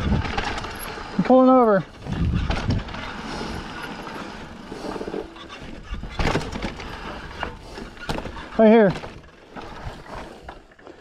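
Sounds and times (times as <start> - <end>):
bike rattling: 0.0 - 11.0
bike tyres crunching on dirt: 0.0 - 11.0.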